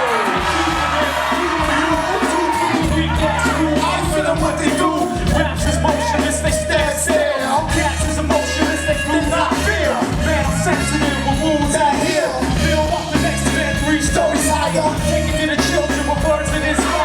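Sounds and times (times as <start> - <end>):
loud music with heavy bass: 0.0 - 17.0
person singing: 0.0 - 17.0.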